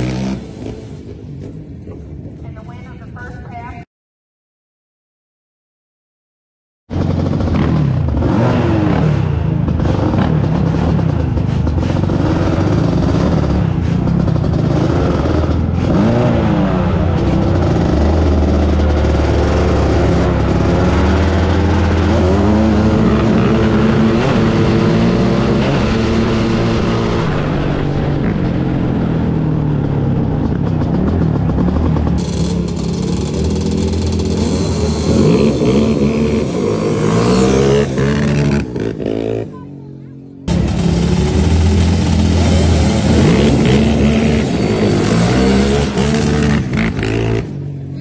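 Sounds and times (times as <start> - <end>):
two-stroke engine at full throttle: 6.9 - 48.0.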